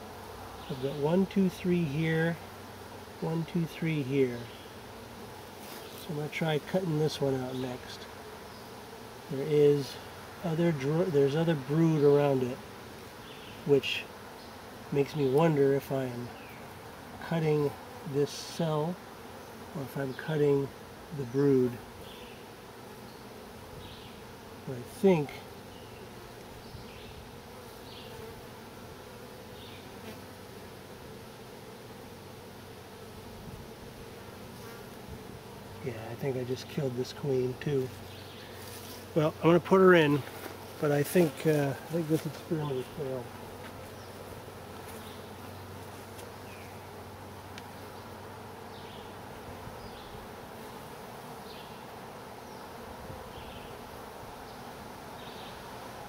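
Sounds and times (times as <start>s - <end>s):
honey bees humming: 0.0s - 56.0s.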